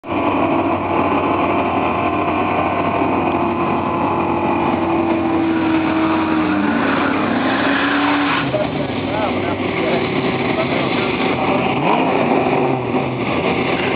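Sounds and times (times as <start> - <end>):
steady pitched tone: 0.0 - 13.9
vehicle engine running: 0.0 - 13.9.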